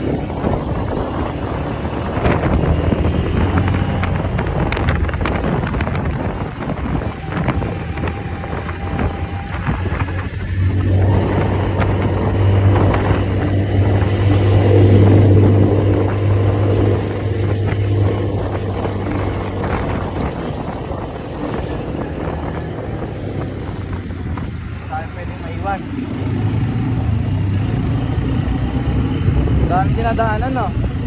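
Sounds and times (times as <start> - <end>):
quad bike engine running: 0.0 - 31.0.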